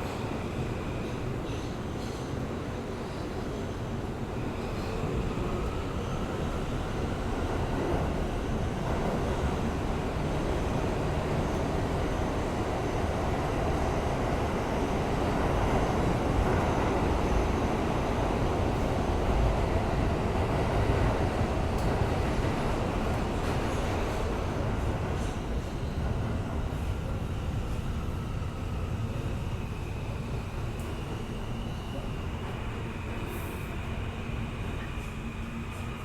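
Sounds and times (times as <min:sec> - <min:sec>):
subway car rumbling on rails: 0:00.0 - 0:36.0.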